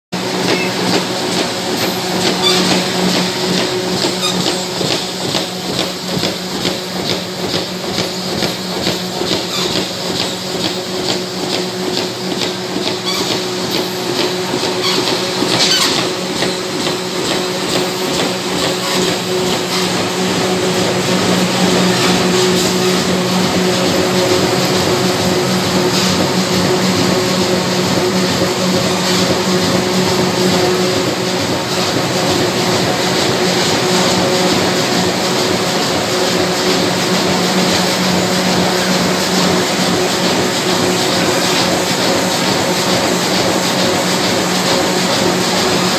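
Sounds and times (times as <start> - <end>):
machine drone: 0.2 - 45.9.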